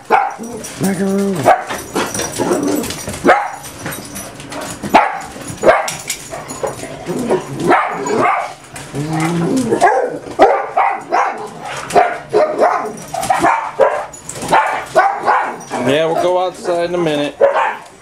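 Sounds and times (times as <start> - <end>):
dogs barking: 0.0 - 0.8, 1.4 - 18.0.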